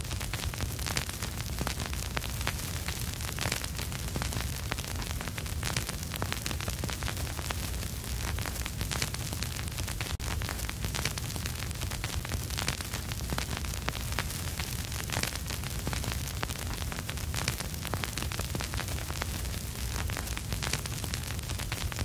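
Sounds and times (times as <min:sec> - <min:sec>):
vinyl record crackles and pops: 0:00.0 - 0:22.0.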